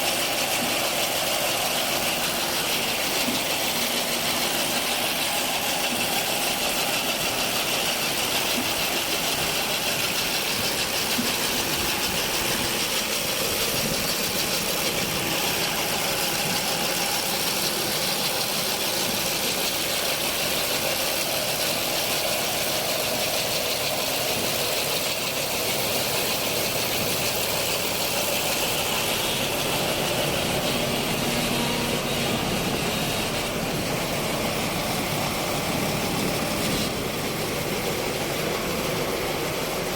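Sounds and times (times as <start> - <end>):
harvesting machine engine: 0.0 - 39.9.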